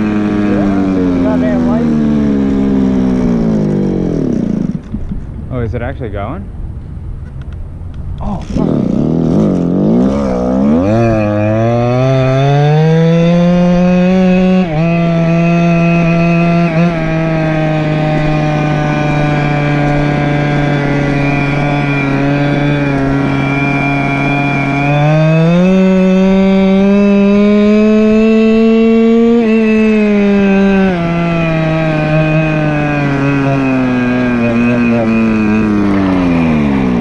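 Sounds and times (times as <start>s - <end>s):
scooter engine revving: 0.0s - 5.4s, 8.3s - 37.0s.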